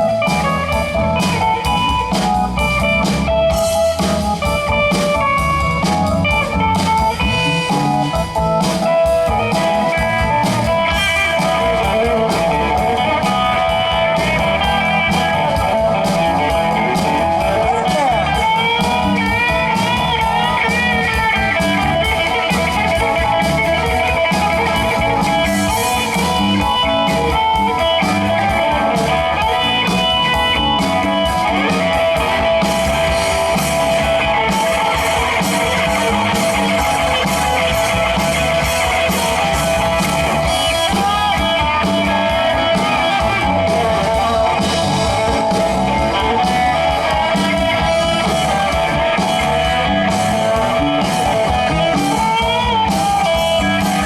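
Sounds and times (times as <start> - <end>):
bass: 0.0 - 54.0
drums: 0.0 - 54.0
electric guitar solo: 0.0 - 54.0.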